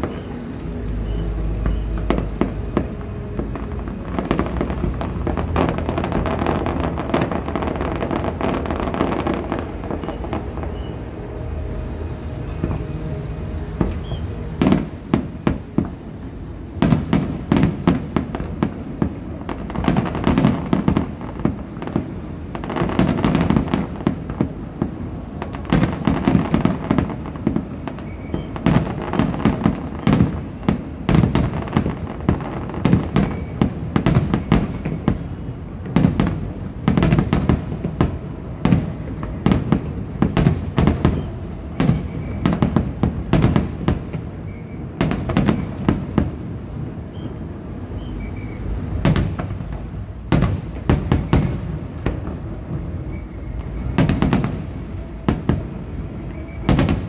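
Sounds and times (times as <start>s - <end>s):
fireworks bursting and crackling: 0.0s - 57.0s.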